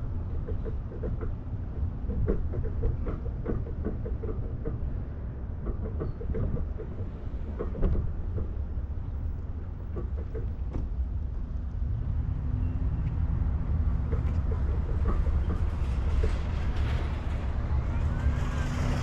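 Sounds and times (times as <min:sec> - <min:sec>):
road rumble: 0:00.0 - 0:19.0
light knocks and rattles: 0:00.1 - 0:11.7, 0:13.1 - 0:17.8.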